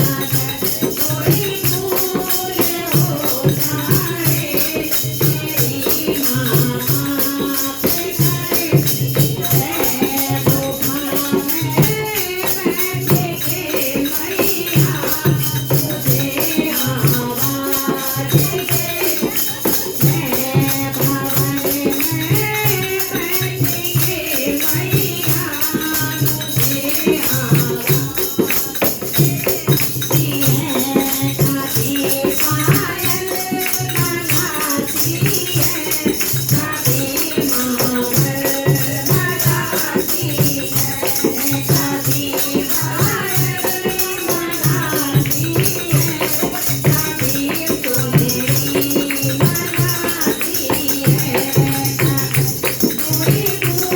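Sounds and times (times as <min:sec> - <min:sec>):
jingling tambourine percussion: 0:00.0 - 0:53.9.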